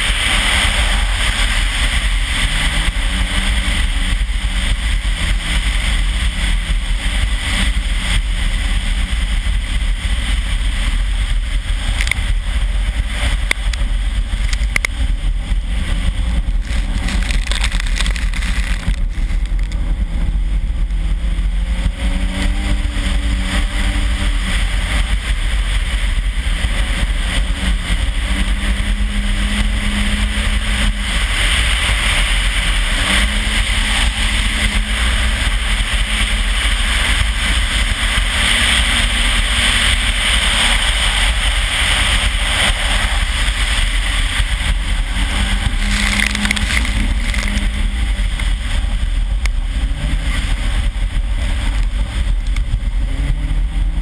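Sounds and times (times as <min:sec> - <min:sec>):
car engine pulling at speed: 0:00.0 - 0:54.0
wind rumble on microphone: 0:00.0 - 0:54.0.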